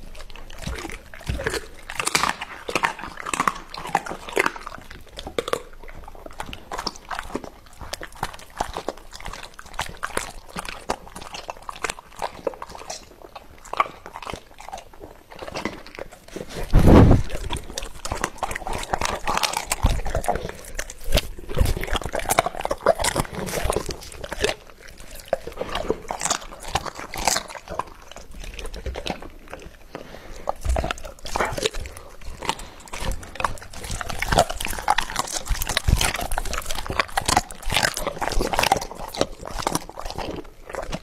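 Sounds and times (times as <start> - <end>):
dog chewing food: 0.0 - 41.0.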